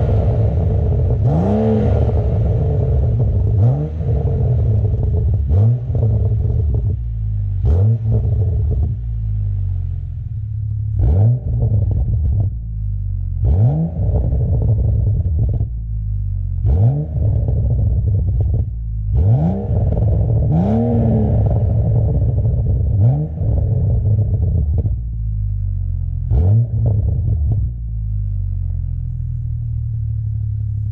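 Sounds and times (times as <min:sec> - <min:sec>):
car exhaust idling and revving: 0:00.0 - 0:30.9.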